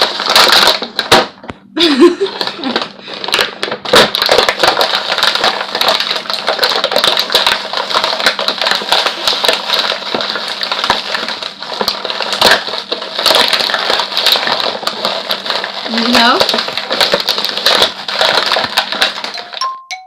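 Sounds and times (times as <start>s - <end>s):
packaging crinkling: 0.0s - 19.6s.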